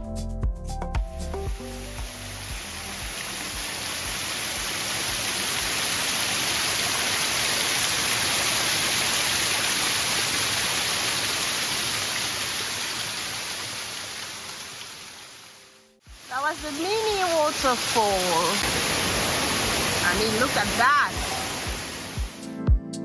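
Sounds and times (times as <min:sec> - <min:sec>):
small waterfall rushing: 0:01.5 - 0:22.4.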